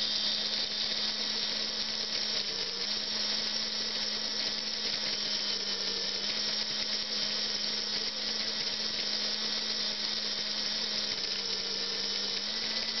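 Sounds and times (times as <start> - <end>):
model locomotive motor whirring: 0.0 - 13.0.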